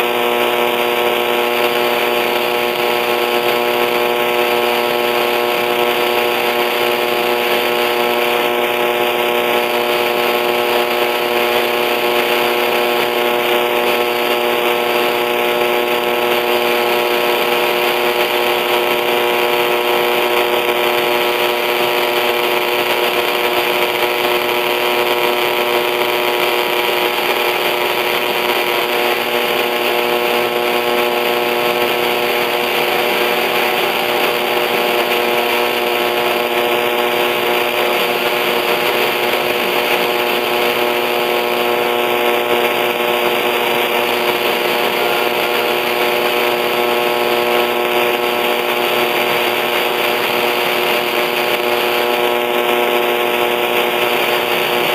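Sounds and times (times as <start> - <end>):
electrical buzz: 0.0 - 54.9
radio static hiss: 0.0 - 54.9.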